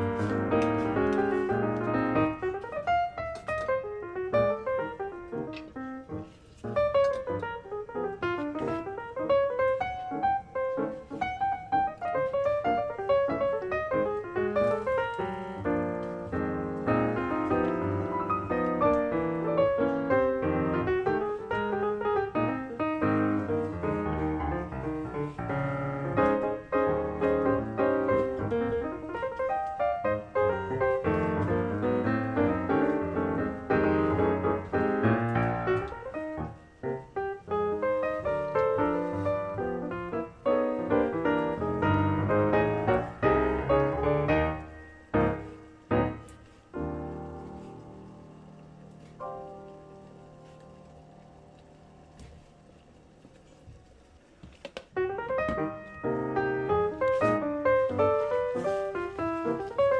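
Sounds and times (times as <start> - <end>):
piano music: 0.0 - 54.0, 54.9 - 59.9.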